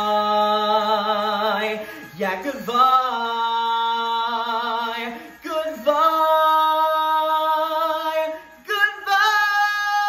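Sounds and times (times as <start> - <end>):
man singing sustained notes: 0.0 - 10.0.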